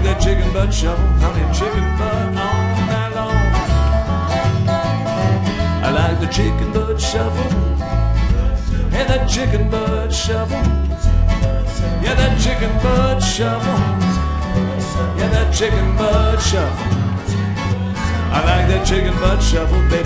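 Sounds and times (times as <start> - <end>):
acoustic guitar: 0.0 - 20.0
sliding resonator guitar: 0.0 - 20.0
upright bass: 0.0 - 20.0.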